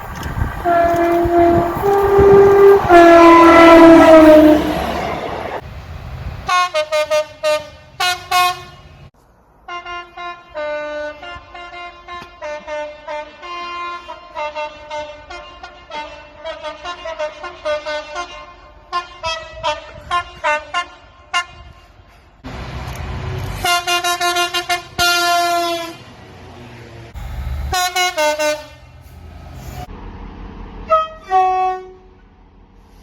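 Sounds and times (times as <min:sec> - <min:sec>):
train horns tooting: 0:00.5 - 0:05.6, 0:06.5 - 0:09.1, 0:09.7 - 0:22.2, 0:23.6 - 0:26.1, 0:27.3 - 0:29.9, 0:30.8 - 0:32.2.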